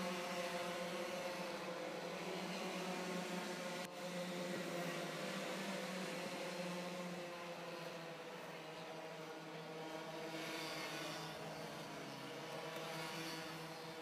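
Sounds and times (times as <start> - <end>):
go-kart engines humming: 0.0 - 14.0.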